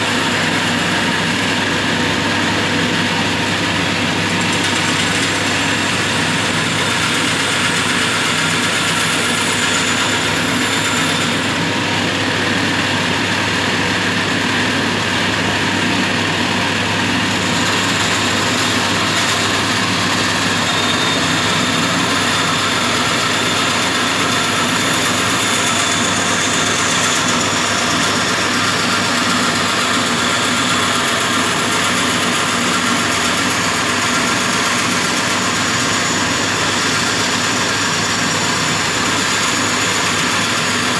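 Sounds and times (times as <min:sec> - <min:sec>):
bandsaw motor hum: 0:00.0 - 0:40.9
bandsaw cutting wood: 0:03.0 - 0:11.8, 0:16.8 - 0:40.9.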